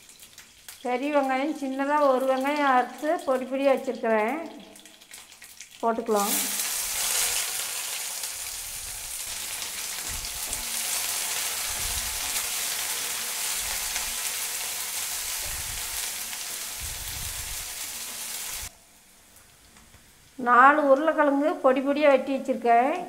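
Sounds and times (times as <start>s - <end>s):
onions sizzling in oil: 0.0s - 20.3s.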